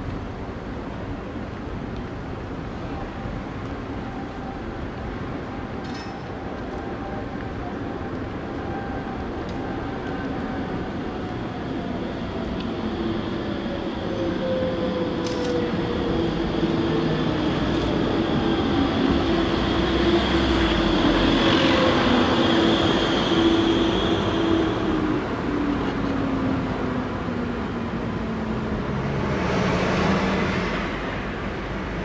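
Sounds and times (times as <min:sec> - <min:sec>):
tram electric whine: 0:00.0 - 0:32.0
tram wheel noise: 0:00.0 - 0:32.0.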